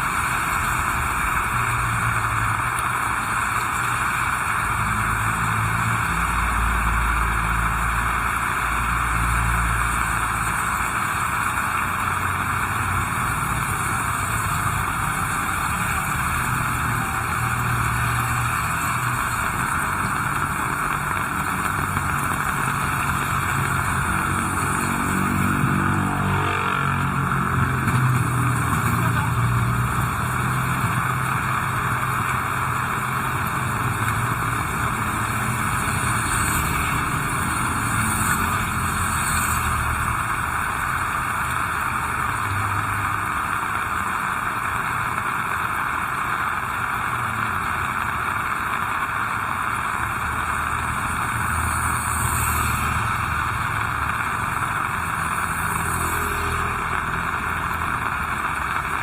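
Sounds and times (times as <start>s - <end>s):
heavy rain: 0.0s - 59.0s
vehicles passing on wet road: 0.0s - 59.0s.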